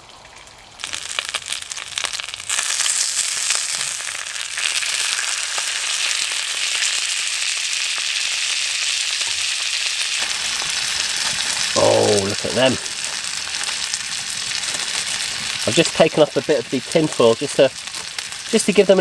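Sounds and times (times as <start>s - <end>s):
sausages sizzling in a pan: 0.7s - 19.0s.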